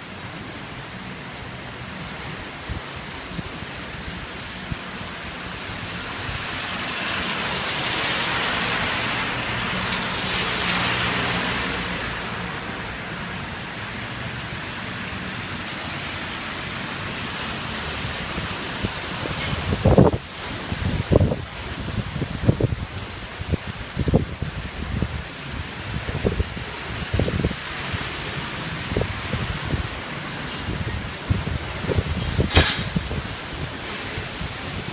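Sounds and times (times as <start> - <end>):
gusty wind: 0.0 - 34.9
heavy rain splashing: 0.0 - 34.9.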